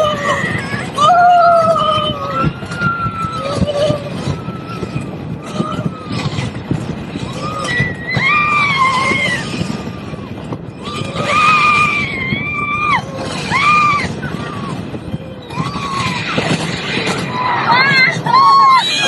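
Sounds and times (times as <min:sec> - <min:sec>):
coaster train rushing: 0:00.0 - 0:19.0
riders screaming: 0:00.0 - 0:19.0
wind: 0:00.0 - 0:19.0.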